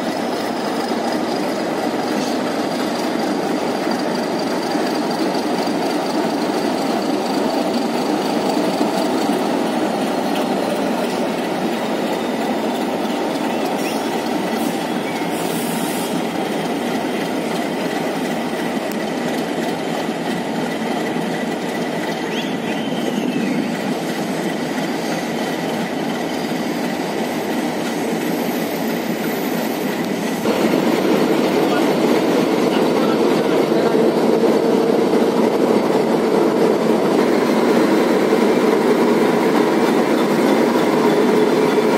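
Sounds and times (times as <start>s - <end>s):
train rumbling on rails: 0.0s - 41.9s.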